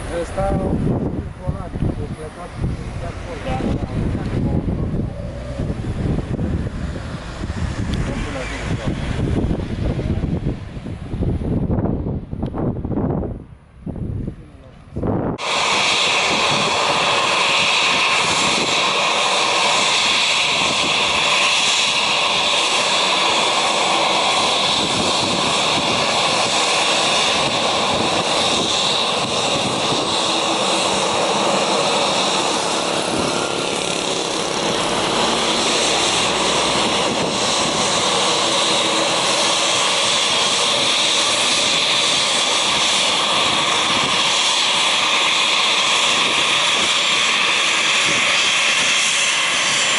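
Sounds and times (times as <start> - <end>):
jet engine whine: 0.0 - 49.9.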